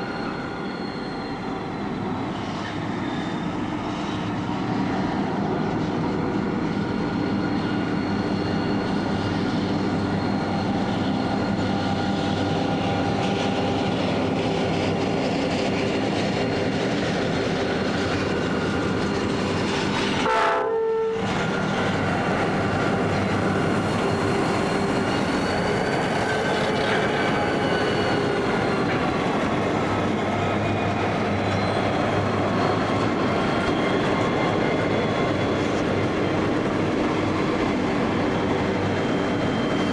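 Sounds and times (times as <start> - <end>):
freight train passing: 0.0 - 39.9.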